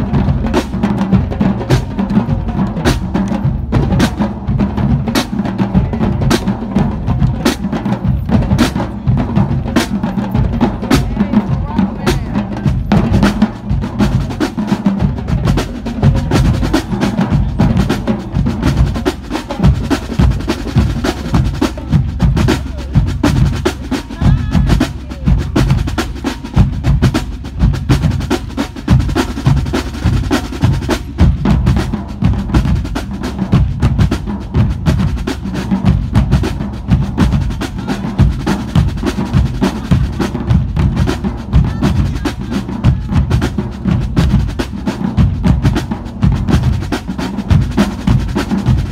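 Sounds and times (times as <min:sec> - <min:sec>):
snare drums: 0:00.0 - 0:48.9.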